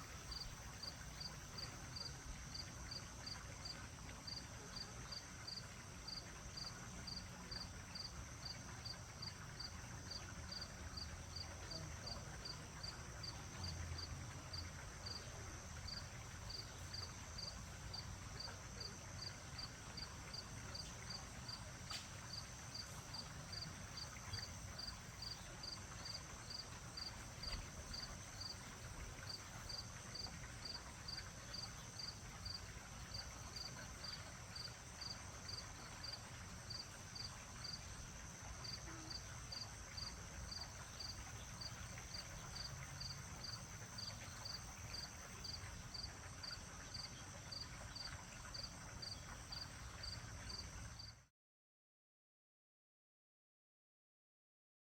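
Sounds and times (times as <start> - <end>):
crickets chirping: 0.0 - 51.2.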